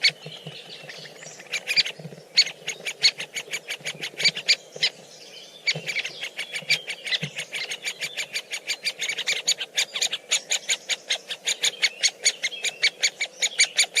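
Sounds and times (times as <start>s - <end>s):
woodpecker tapping: 0.0s - 5.0s, 5.6s - 14.0s
bird chirps: 0.0s - 14.0s.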